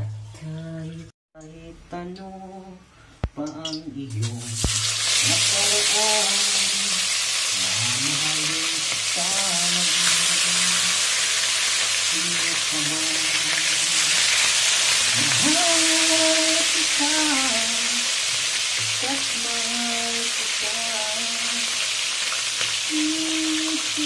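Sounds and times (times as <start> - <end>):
hot oil sizzling: 4.1 - 24.0.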